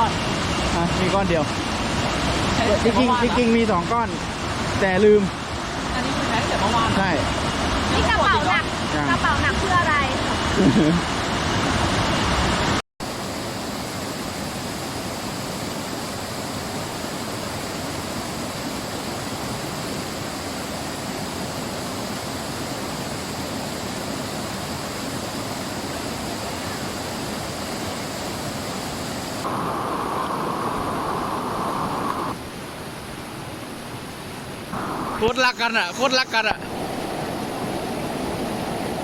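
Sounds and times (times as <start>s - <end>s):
rushing water: 0.0s - 39.0s.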